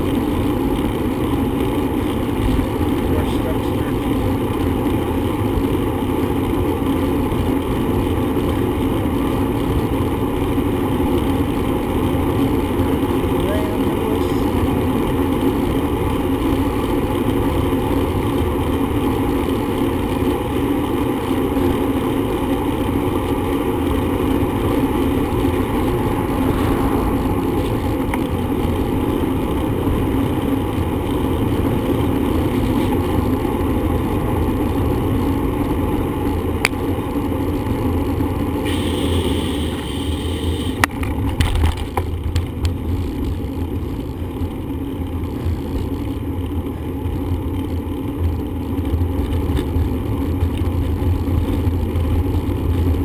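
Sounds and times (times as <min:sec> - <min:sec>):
wind and road noise from bicycle: 0:00.0 - 0:53.0.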